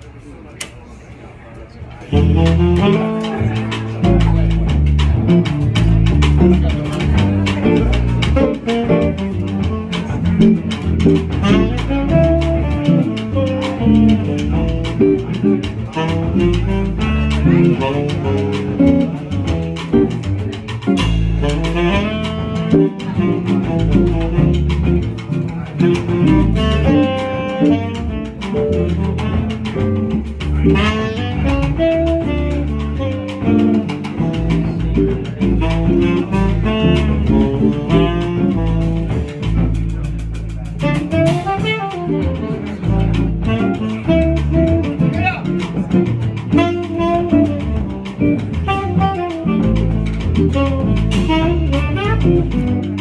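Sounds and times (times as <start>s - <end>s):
double bass line: 2.0s - 53.0s
guitar picked by hand: 2.0s - 53.0s
jazz group playing: 2.0s - 53.0s.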